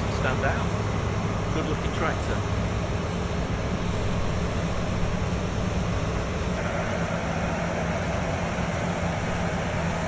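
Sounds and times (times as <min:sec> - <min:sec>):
machinery engines droning: 0:00.0 - 0:10.0.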